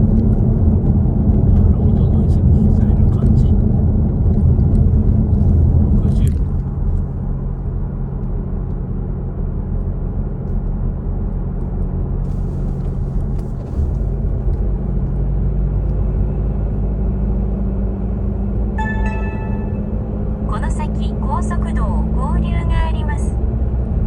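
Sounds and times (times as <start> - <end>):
car low drone and rumble: 0.0 - 24.0.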